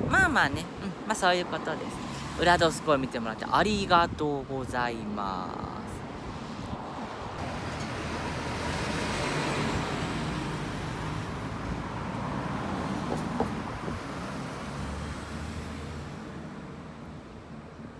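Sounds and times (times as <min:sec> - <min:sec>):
passing vehicle: 0:00.7 - 0:03.2, 0:05.9 - 0:17.9.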